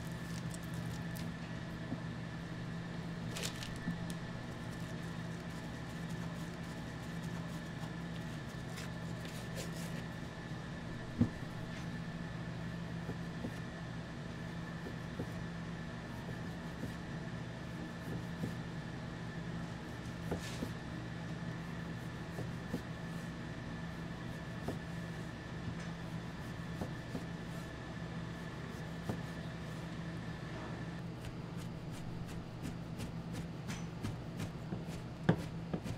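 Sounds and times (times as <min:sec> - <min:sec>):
machine hum with high whine: 0:00.0 - 0:35.9.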